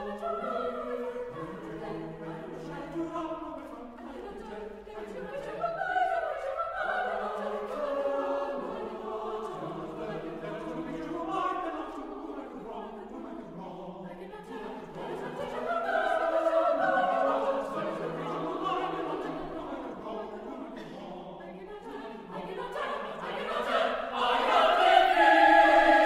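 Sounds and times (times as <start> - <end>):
choir singing a hymn: 0.0 - 26.0.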